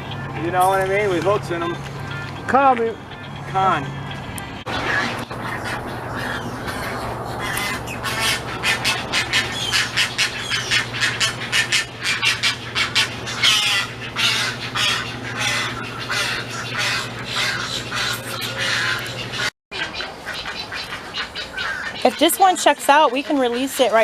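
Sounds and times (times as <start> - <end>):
steady low hum: 0.0 - 19.5
birds squawking: 4.7 - 24.0.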